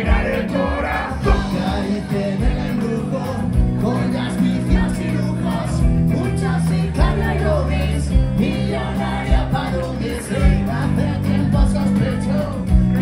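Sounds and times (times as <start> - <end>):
live band playing rumba: 0.0 - 13.0
man singing into microphone: 0.0 - 13.0.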